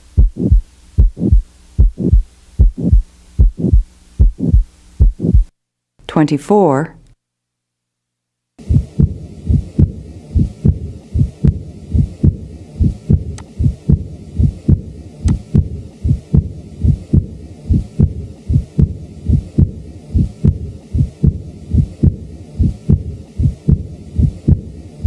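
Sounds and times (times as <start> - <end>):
heartbeat lub-dub: 0.0 - 5.5, 8.6 - 25.0.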